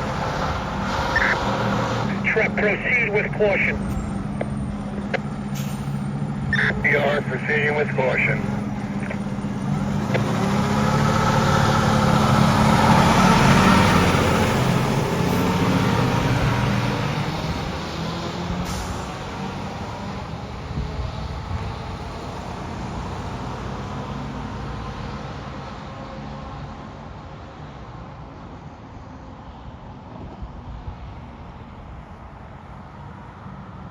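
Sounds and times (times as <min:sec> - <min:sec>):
fire truck engine passing by: 0:00.0 - 0:30.1.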